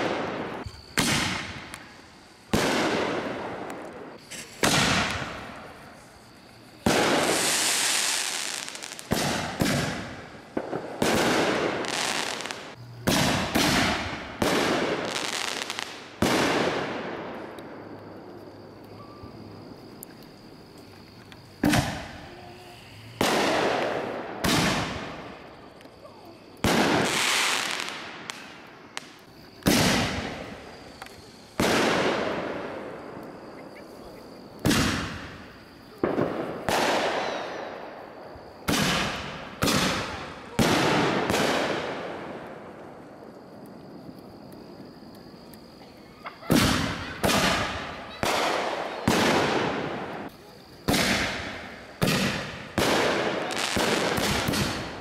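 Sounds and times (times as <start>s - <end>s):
fireworks bangs: 0.0s - 18.2s, 21.6s - 43.2s, 46.2s - 55.0s.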